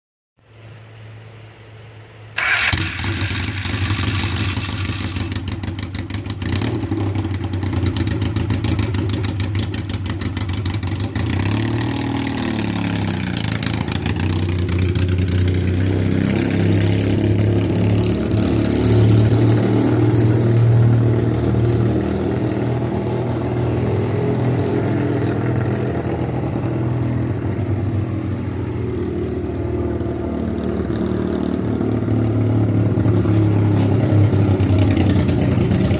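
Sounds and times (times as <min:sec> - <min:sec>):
motorcycle engine revving: 0:02.4 - 0:35.9.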